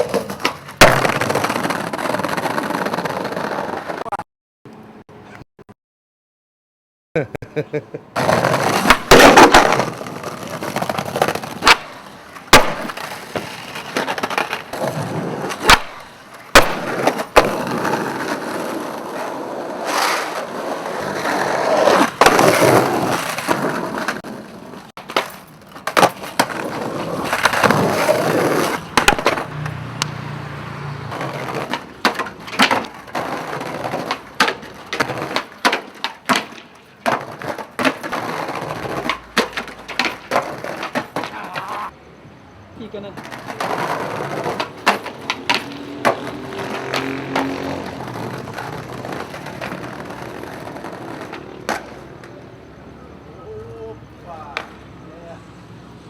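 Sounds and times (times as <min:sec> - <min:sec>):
skateboard clacks popping and landing: 0:00.0 - 0:04.1, 0:08.2 - 0:30.2, 0:31.1 - 0:42.0, 0:43.2 - 0:52.6, 0:54.5 - 0:54.9
skateboard wheels rumbling: 0:00.0 - 0:04.2, 0:08.1 - 0:42.0, 0:42.8 - 0:53.0.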